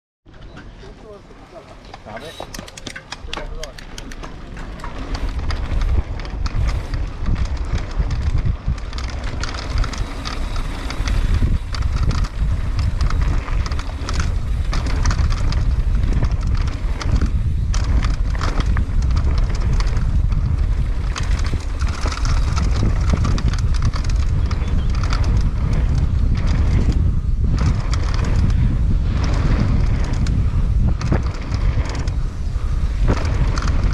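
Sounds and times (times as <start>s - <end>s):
bike rattling: 0.3s - 33.9s
bike tyres on trail: 0.3s - 33.9s
wind buffeting microphone: 0.3s - 33.9s.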